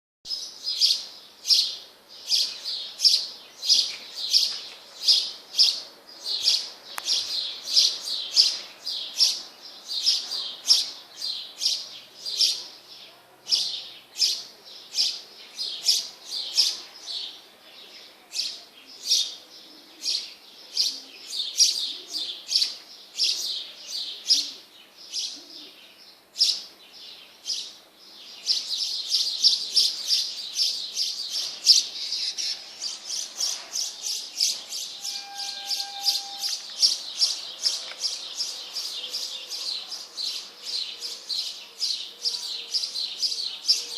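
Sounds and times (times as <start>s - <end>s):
birds chirping: 0.3s - 43.9s.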